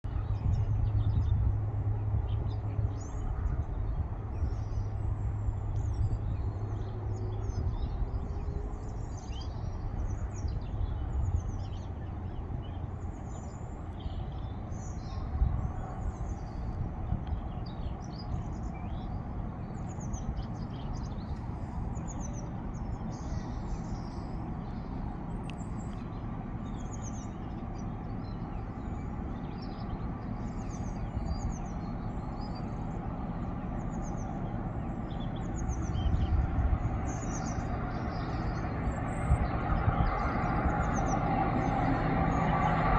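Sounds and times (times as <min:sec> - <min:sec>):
diesel locomotive rumble: 0:00.0 - 0:42.9
small birds chirping: 0:00.0 - 0:42.9.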